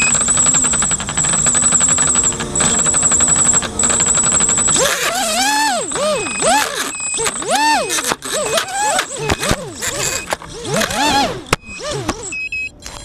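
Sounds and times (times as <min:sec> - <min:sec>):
drone motors revving: 0:00.0 - 0:12.4
drone motors rattling and whining: 0:00.0 - 0:13.0.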